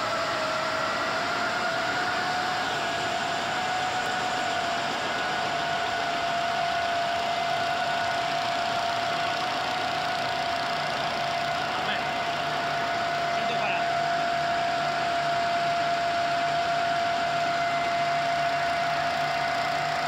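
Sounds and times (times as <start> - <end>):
high machine whine: 0.0 - 20.0.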